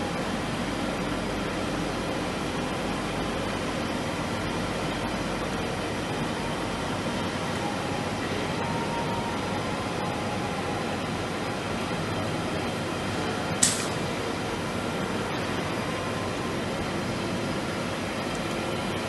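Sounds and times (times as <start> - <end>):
machinery humming and hissing: 0.0 - 19.0.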